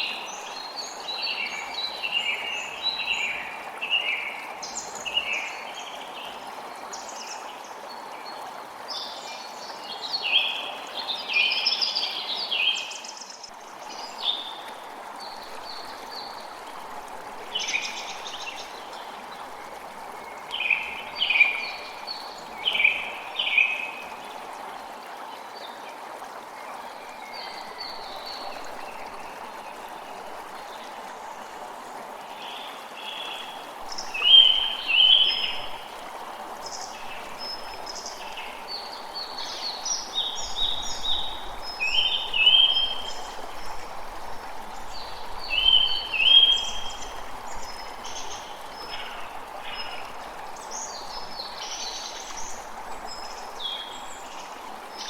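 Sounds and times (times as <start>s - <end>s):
creek running: 0.0s - 55.0s.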